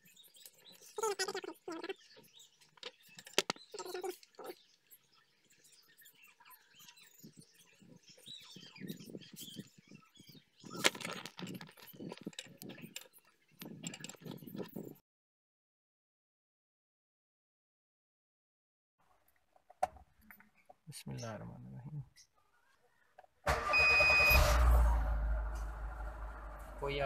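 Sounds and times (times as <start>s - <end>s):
birds chirping: 0.0s - 15.0s, 20.1s - 27.0s.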